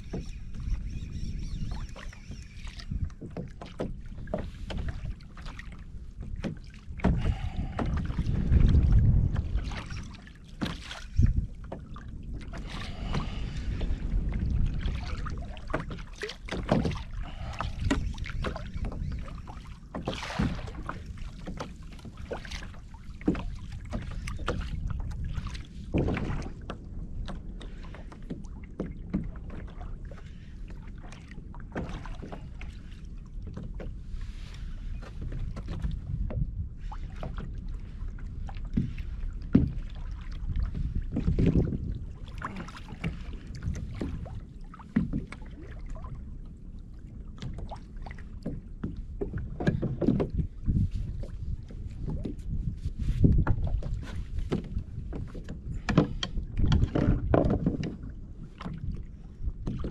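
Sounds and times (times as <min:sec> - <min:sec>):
water lapping around a kayak: 0:00.0 - 0:59.9
wind rumbling on microphone: 0:00.0 - 0:59.9.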